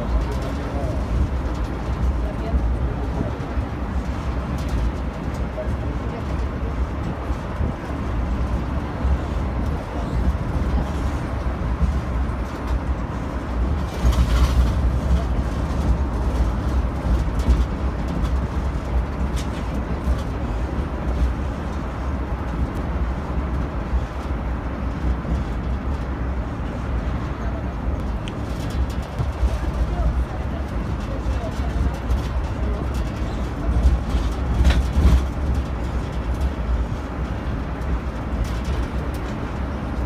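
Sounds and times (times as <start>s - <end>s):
road train engine rumble: 0.0s - 40.0s.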